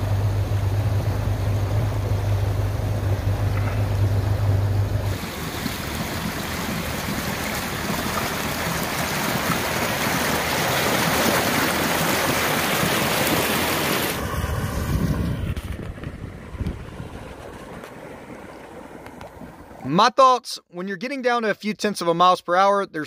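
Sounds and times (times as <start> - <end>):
boat wake rushing water: 0.0 - 20.2.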